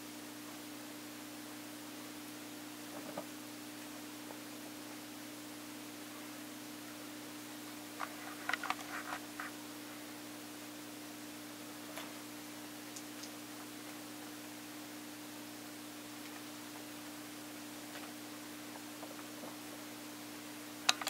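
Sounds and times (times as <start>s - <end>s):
low hum with hiss: 0.0s - 21.0s.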